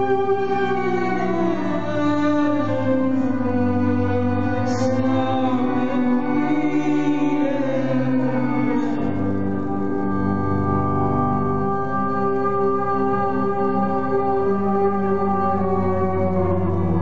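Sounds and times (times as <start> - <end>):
bowed violin held notes: 0.0 - 17.0
looped violin drones: 0.0 - 17.0.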